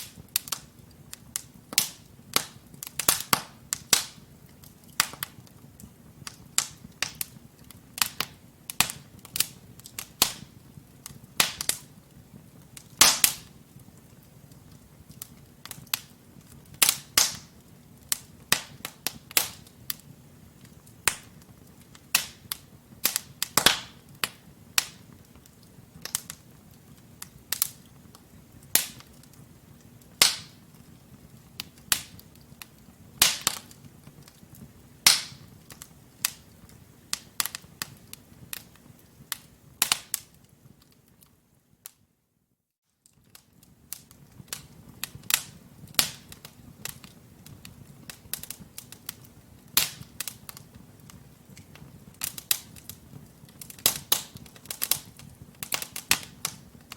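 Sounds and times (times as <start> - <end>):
wood fire crackling and popping: 0.0 - 42.0, 42.9 - 56.9
low hum of flames: 0.0 - 42.1, 43.0 - 56.9.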